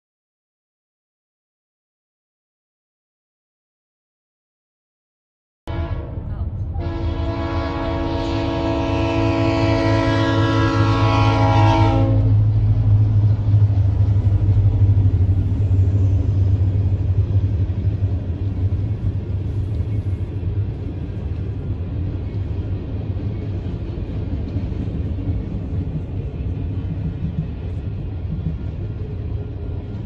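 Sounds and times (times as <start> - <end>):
freight train passing: 5.7 - 30.0.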